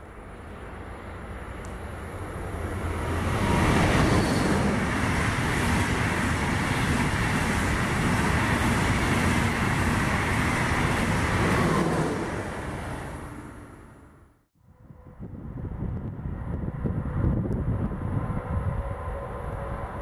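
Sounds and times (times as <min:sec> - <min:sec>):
high-speed train passing: 0:00.0 - 0:20.0.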